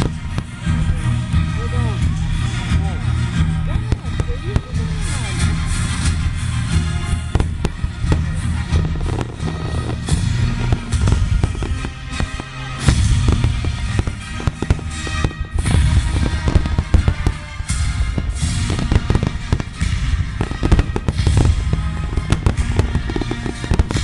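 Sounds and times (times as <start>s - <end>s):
fireworks booming and crackling: 0.0s - 24.0s
music playing: 0.0s - 24.0s.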